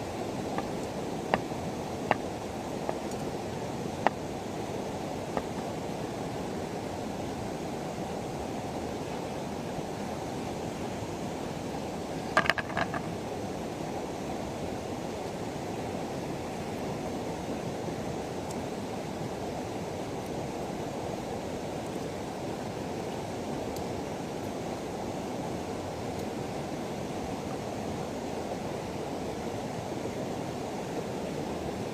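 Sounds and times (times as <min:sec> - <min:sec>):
river water flowing: 0:00.0 - 0:31.9.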